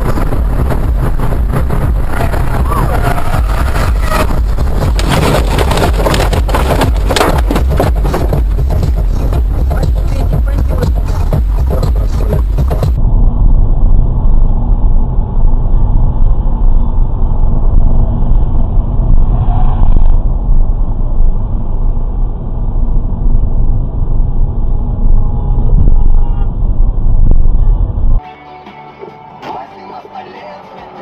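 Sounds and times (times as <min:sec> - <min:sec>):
motor vehicle rumble: 0:00.0 - 0:28.2.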